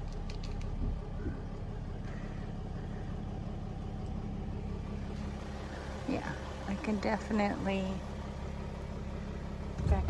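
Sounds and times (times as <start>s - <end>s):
engine running at low revs: 0.0s - 10.0s.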